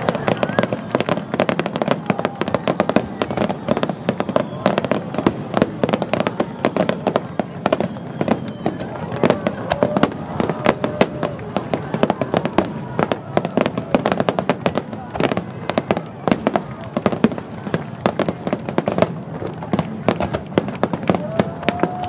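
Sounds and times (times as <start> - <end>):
fireworks bursting: 0.0 - 22.0
spectators' voices: 0.0 - 22.0.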